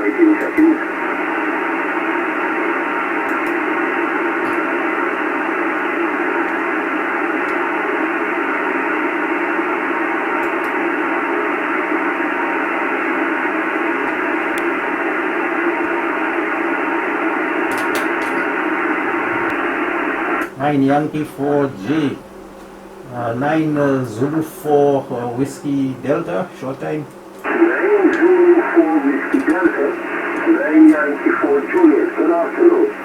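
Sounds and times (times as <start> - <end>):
radio receiver hissing: 0.0 - 33.0.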